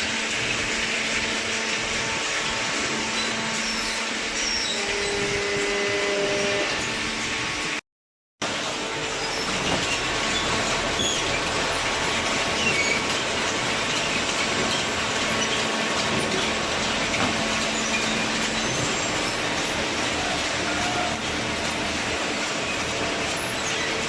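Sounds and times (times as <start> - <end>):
steady machine noise: 0.0 - 7.8, 8.4 - 24.0.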